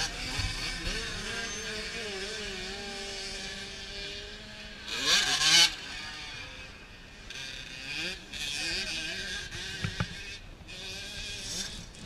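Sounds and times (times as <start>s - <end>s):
motocross bike engines droning: 0.0s - 12.0s
motorbike revving sharply: 0.0s - 12.0s.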